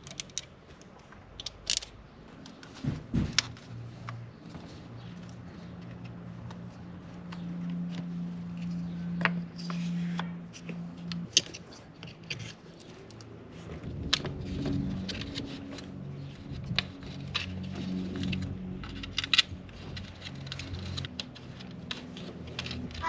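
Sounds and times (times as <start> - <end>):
low hum: 3.0 - 23.0.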